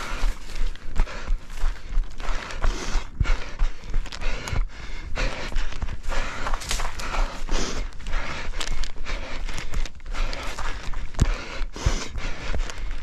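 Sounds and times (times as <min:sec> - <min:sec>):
person panting hard: 0:00.0 - 0:13.0
running footsteps: 0:00.0 - 0:13.0.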